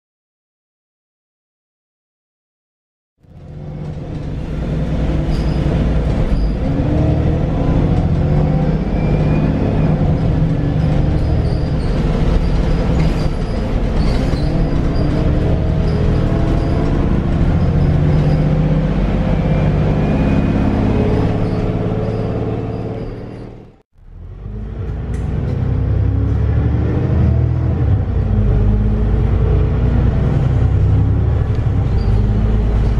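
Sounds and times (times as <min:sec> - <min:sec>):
bus diesel engine through gears: 0:03.2 - 0:32.9.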